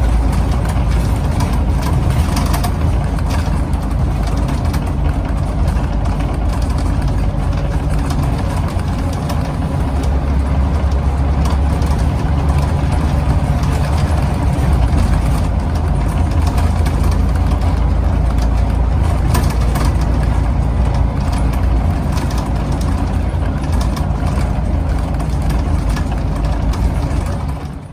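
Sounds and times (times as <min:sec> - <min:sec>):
bus body rattles: 0:00.0 - 0:27.9
bus engine rumbling: 0:00.0 - 0:27.9.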